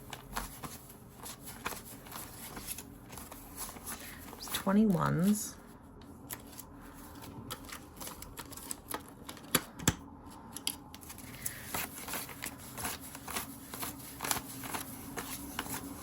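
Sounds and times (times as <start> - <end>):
banknotes flicking and rustling: 0.0 - 5.4, 6.2 - 9.8, 10.5 - 16.0.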